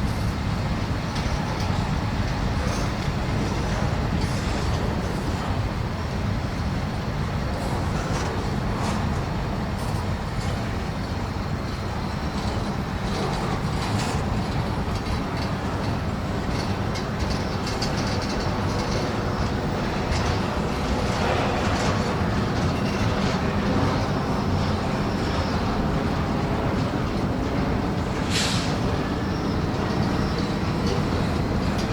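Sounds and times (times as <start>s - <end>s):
train wheels rumbling on rail: 0.0s - 31.9s.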